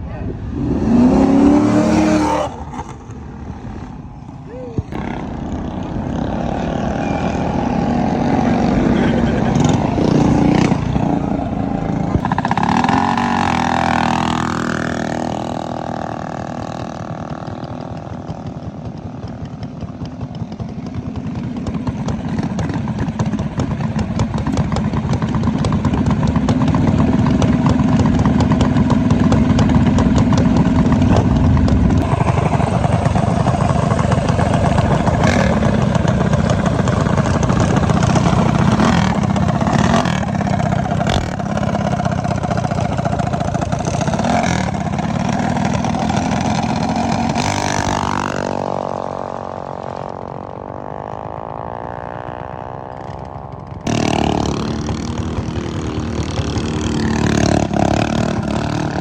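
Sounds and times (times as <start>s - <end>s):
minibike engine running: 4.9s - 59.0s.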